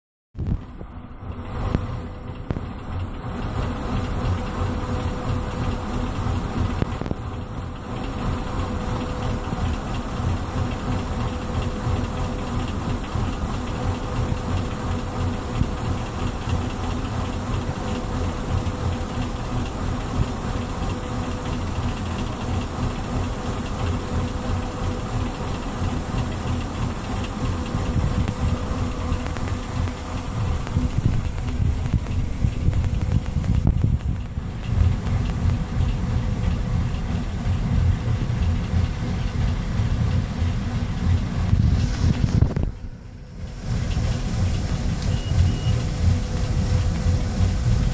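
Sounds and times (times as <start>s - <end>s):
boat engine idling: 0.6s - 47.9s.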